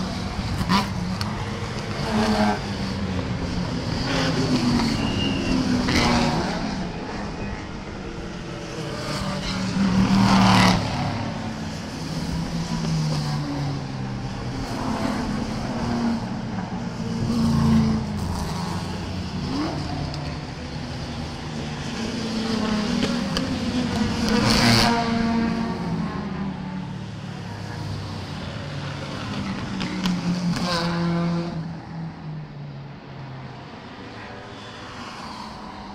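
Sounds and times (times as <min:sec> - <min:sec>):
racing cars passing: 0:00.0 - 0:35.9.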